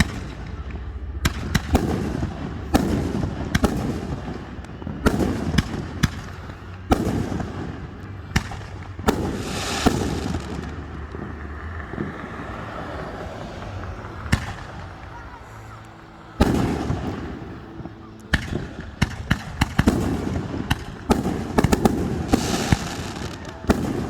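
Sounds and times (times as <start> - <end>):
fireworks booming: 0.0 - 24.0
fireworks hissing: 0.0 - 24.0.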